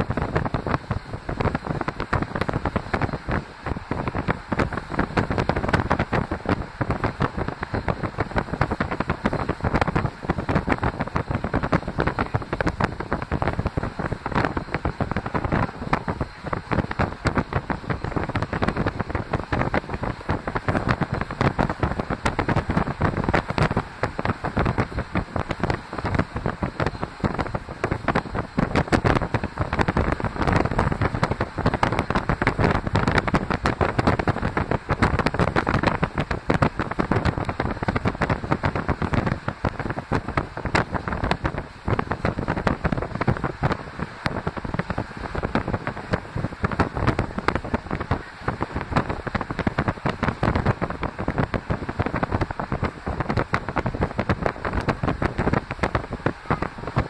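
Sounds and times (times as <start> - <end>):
train rolling and rushing: 0.0 - 57.0
wind buffeting on microphone: 0.0 - 57.0.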